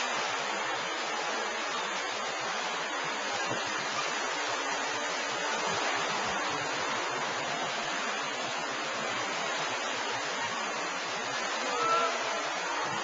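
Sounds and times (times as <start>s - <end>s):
water waves rushing: 0.0s - 13.0s.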